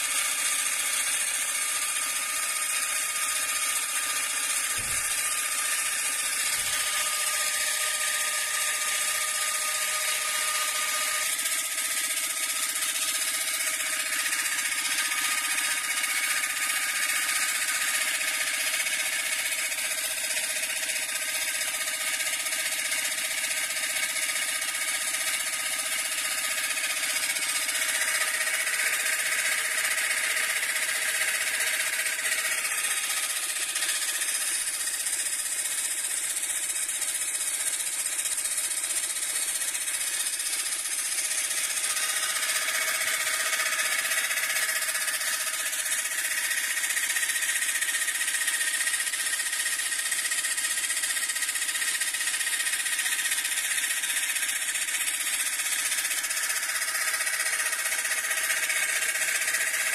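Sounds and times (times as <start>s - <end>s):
compressor humming and whining: 0.0s - 59.9s.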